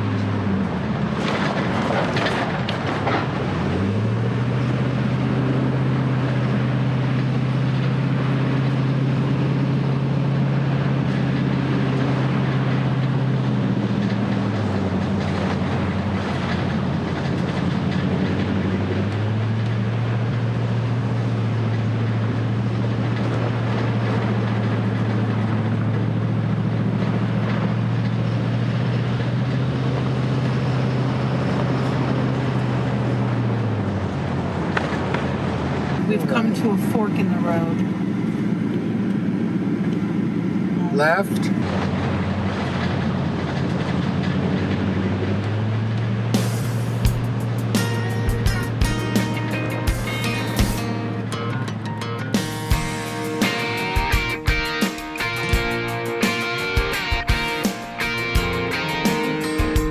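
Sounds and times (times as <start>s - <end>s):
tyre and road noise: 0.0s - 59.9s
vehicle engine humming: 0.0s - 59.9s.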